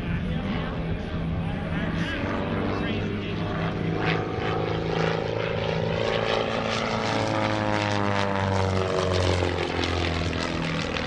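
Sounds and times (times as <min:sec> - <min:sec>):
propeller plane engine: 0:00.0 - 0:11.0.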